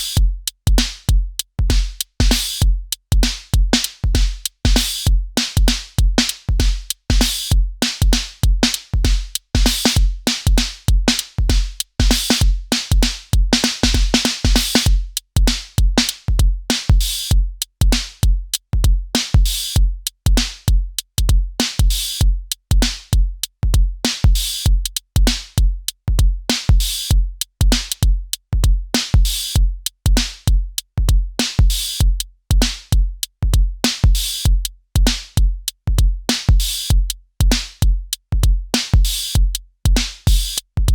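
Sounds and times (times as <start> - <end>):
drum machine beat: 0.0 - 40.9.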